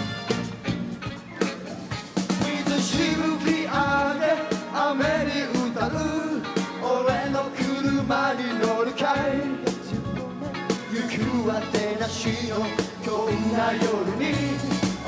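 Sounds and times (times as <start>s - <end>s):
drums: 0.0s - 15.0s
live band playing pop-rock: 0.0s - 15.0s
melodic lead line: 0.0s - 15.0s.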